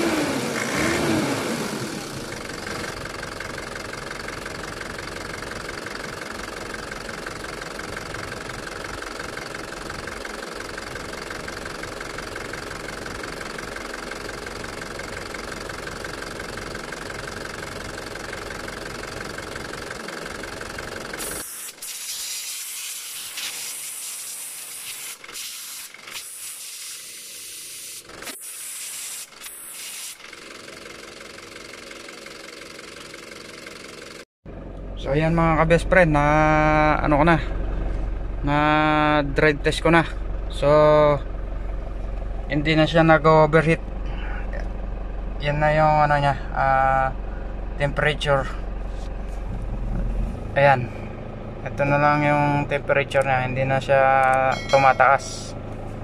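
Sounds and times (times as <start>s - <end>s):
car engine idling: 0.0s - 21.5s, 30.2s - 56.0s.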